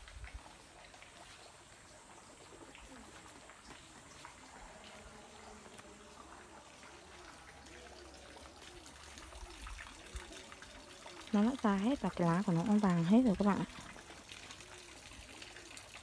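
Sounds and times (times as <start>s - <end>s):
faint trickle of running water: 0.0s - 16.0s.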